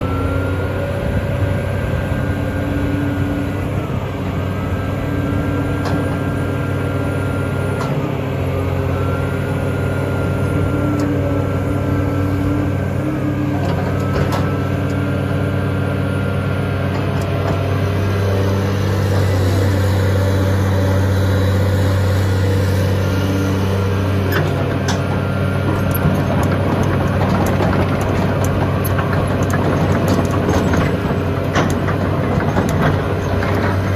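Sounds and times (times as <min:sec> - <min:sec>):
excavator diesel engine running: 0:00.0 - 0:33.9
high hydraulic whine: 0:00.0 - 0:33.9.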